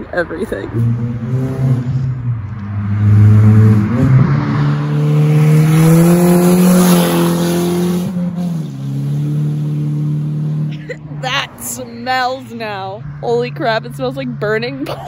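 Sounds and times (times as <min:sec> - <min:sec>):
car engine droning loudly: 0:00.0 - 0:15.0.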